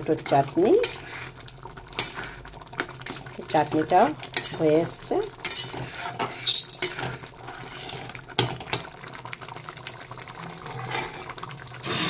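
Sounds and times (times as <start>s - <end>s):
chutney bubbling: 0.0s - 12.0s.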